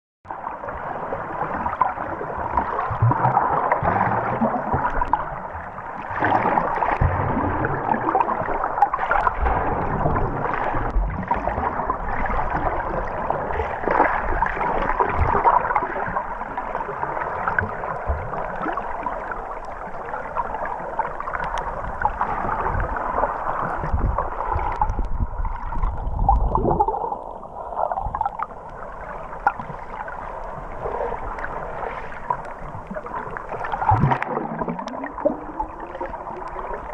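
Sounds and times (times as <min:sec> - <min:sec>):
muffled underwater bubbling: 0:00.3 - 0:36.9.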